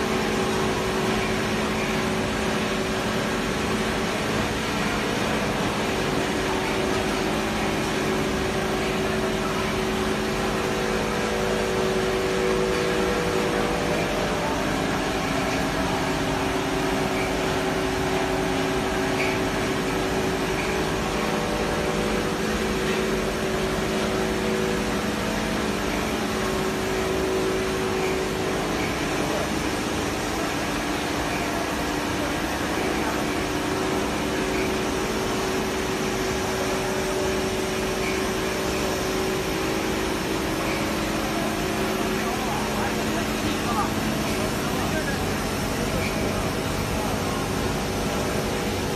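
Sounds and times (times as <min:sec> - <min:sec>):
industrial machinery running: 0:00.0 - 0:48.9.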